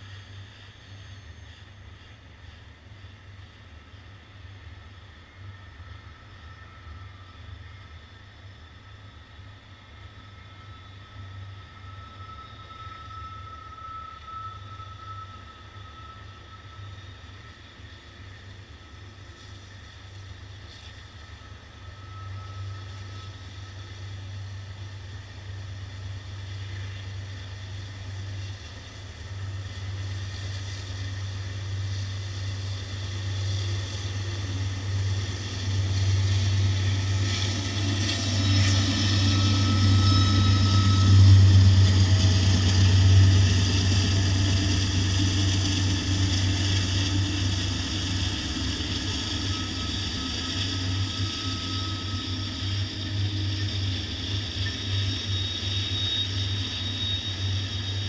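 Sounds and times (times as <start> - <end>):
diesel locomotive drone: 0.0 - 58.0
freight train rolling past: 0.0 - 58.0.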